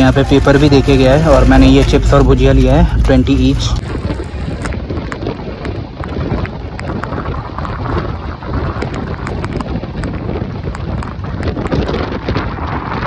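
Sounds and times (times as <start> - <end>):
heavy rain: 0.0 - 13.0
wind buffeting microphone: 0.0 - 13.0.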